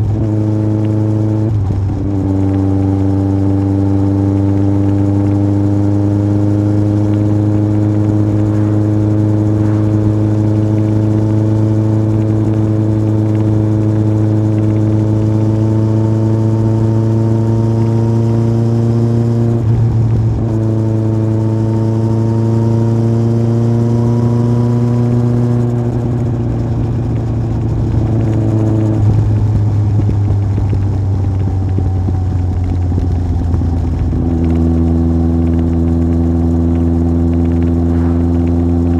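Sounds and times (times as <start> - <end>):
motorcycle engine riding: 0.0 - 38.9.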